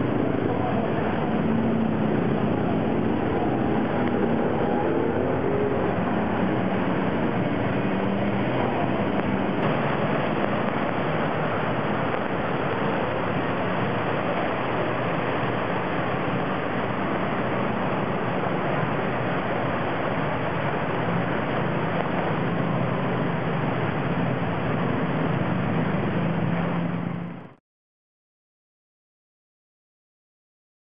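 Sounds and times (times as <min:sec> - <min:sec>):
engine hum: 0:00.0 - 0:27.6
water and tyre spray: 0:00.0 - 0:27.6.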